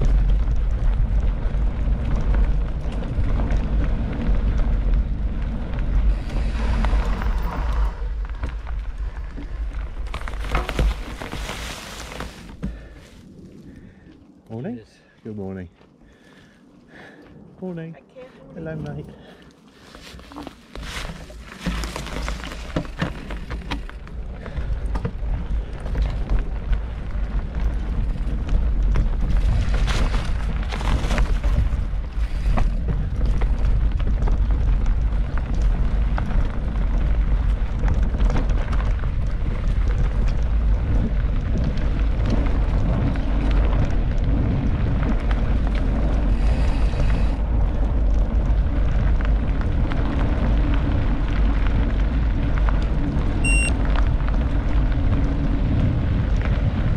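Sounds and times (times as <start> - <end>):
bike rattle and tyre noise: 0.0 - 56.9
wind rumbling on microphone: 0.0 - 56.9.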